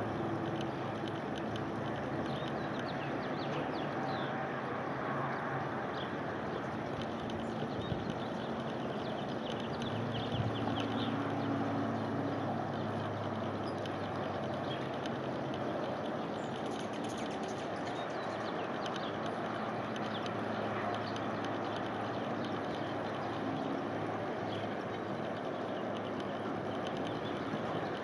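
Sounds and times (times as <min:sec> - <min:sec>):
low engine hum: 0:00.0 - 0:28.0.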